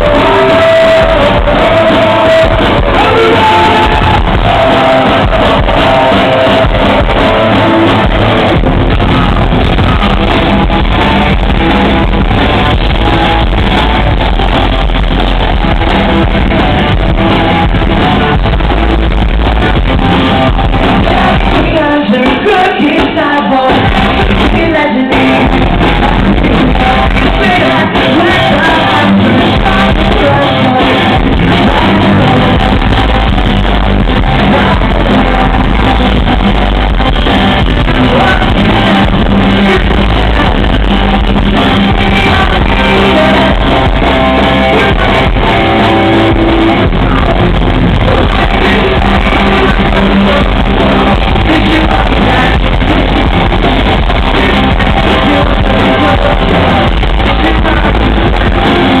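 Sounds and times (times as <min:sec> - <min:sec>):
person singing: 0:00.0 - 0:13.0, 0:20.5 - 0:59.0
live pop-punk band: 0:00.0 - 0:59.0.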